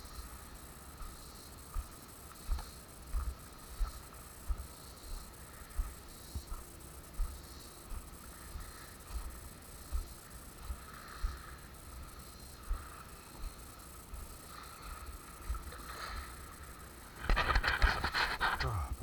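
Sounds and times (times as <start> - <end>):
insects chorus pulsing: 0.0 - 19.0.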